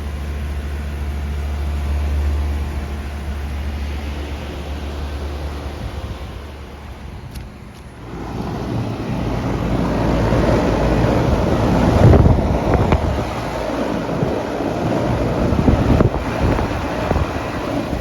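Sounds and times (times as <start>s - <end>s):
air conditioner unit running: 0.0s - 18.0s.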